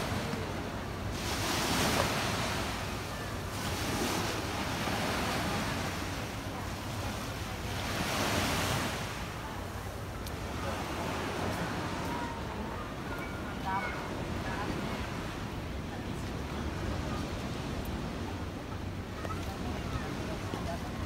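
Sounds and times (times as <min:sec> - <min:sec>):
waves washing onto beach: 0:00.0 - 0:21.0.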